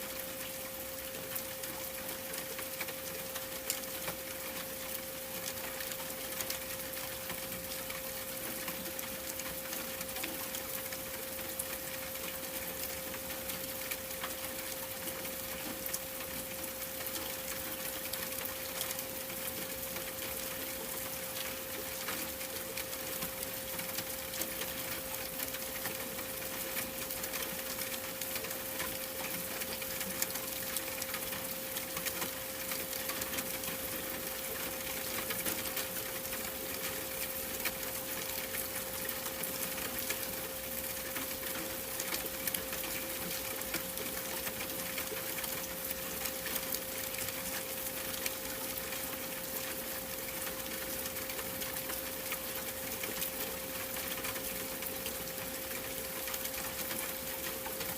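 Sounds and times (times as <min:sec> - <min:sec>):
rain-like hiss with crackle: 0:00.0 - 0:57.9.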